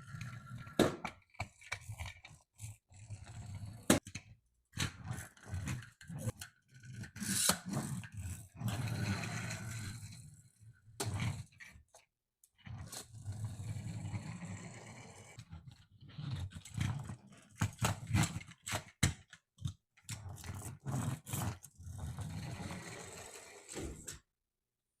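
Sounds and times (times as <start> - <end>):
toy truck wheels grinding and whirring: 0.0 - 11.9, 12.6 - 19.0, 20.0 - 24.1.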